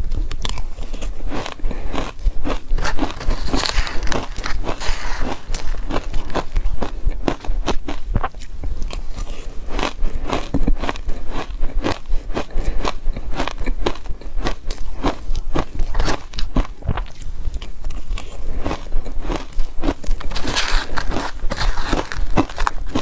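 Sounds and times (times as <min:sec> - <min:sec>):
crunching and chewing shaved ice: 0:00.0 - 0:23.0.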